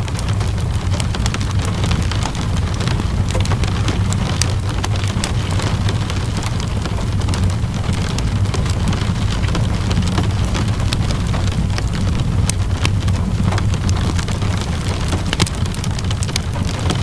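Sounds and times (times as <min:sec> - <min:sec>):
steady rainfall: 0:00.0 - 0:17.0
wood fire crackling: 0:00.0 - 0:17.0.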